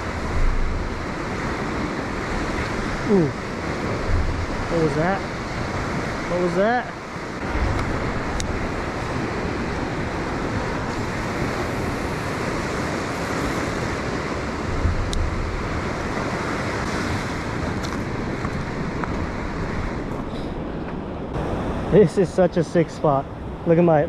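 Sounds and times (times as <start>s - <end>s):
ocean surf on rocky shore: 0.0s - 24.0s
wind: 0.0s - 24.0s.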